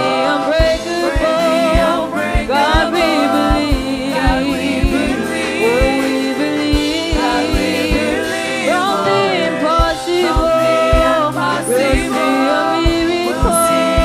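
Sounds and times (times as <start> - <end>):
drum beat: 0.0 - 9.1, 9.7 - 14.0
voices singing: 0.0 - 14.0
worship band playing gospel music: 0.0 - 14.0.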